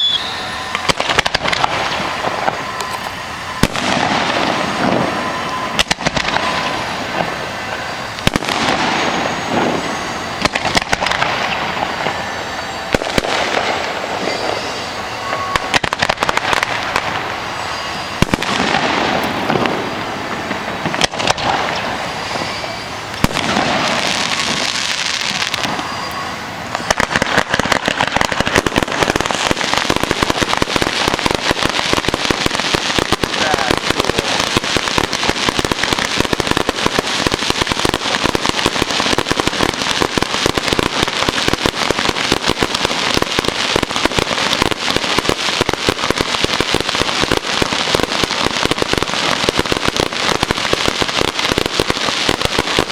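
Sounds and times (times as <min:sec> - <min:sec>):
fireworks bursting: 0:00.0 - 0:52.9
fireworks crackling: 0:00.0 - 0:52.9.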